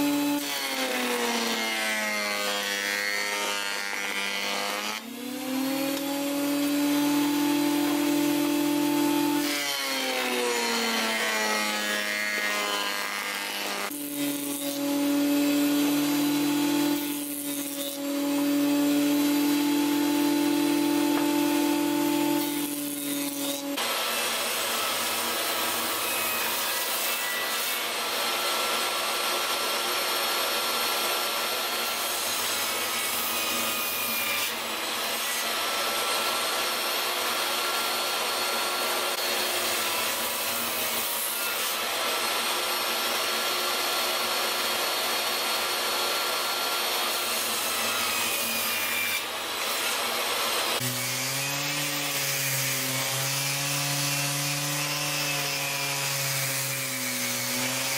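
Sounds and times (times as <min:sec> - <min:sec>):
table saw cutting wood: 0:00.0 - 0:57.9.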